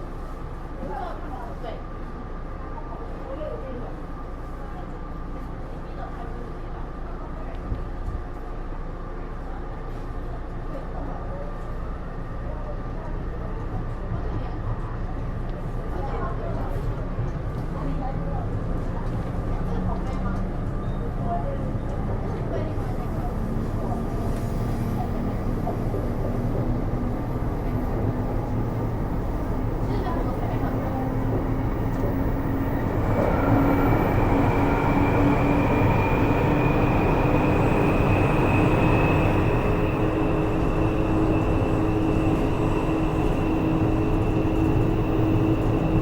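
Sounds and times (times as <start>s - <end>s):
train wheels rumbling on track: 4.0s - 46.0s.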